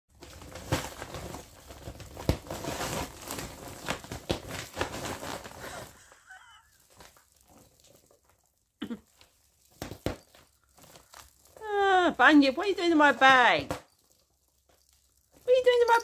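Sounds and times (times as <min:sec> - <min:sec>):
foil bag crinkling: 0:00.1 - 0:16.0.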